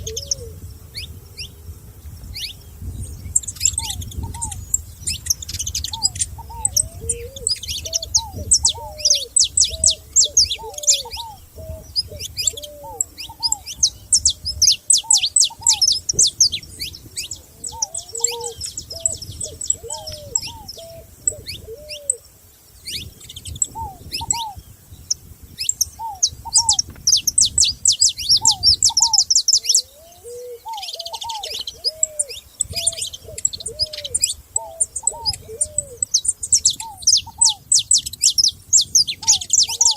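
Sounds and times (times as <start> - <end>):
dove cooing: 0.0 - 1.5, 3.4 - 24.6, 25.9 - 37.9, 38.8 - 39.9
birds chirping and trilling: 0.0 - 39.9.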